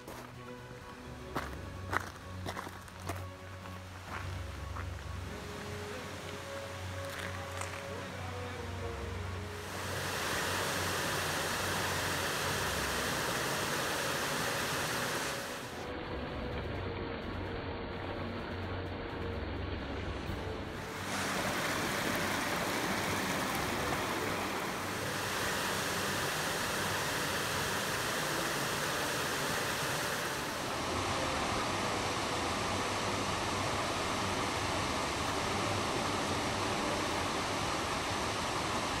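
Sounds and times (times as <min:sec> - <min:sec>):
rocky stream rushing: 0:00.0 - 0:15.9, 0:19.8 - 0:39.0
small cascading waterfall: 0:00.0 - 0:15.9, 0:19.9 - 0:39.0.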